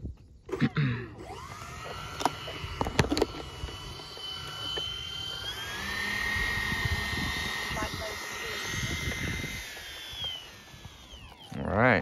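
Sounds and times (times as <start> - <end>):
electric ducted fans whining: 0.3 - 12.0.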